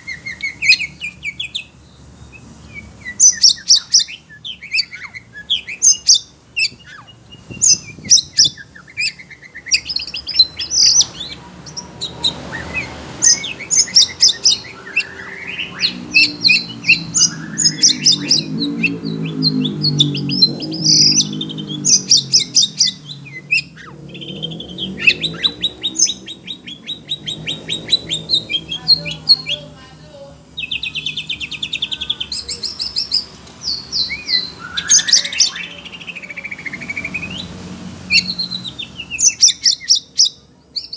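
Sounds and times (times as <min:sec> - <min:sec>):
songbird singing varied whistles: 0:00.0 - 0:29.7, 0:30.5 - 0:40.9
other birds calling: 0:00.0 - 0:40.9.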